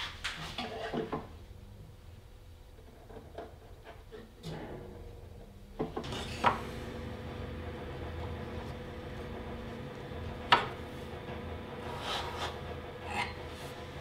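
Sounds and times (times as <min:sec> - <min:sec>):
steady low hum: 0:01.0 - 0:14.0.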